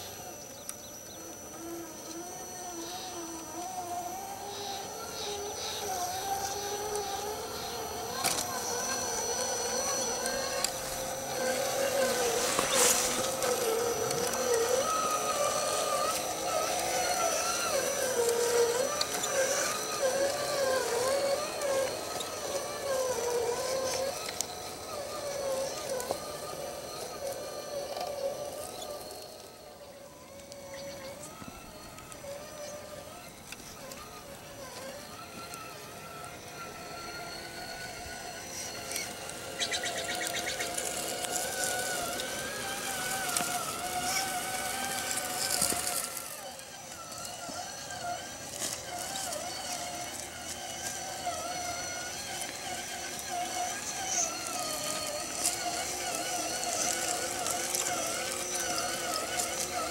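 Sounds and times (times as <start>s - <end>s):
electric motor and gears whining: 0.0s - 59.9s.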